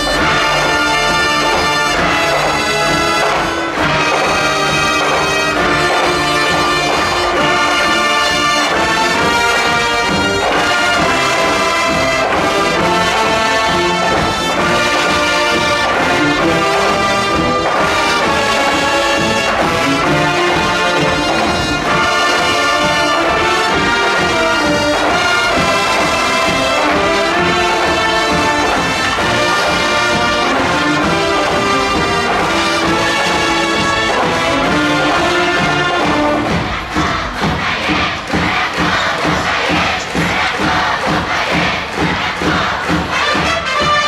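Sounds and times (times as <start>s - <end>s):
wind band playing loudly: 0.0s - 44.0s.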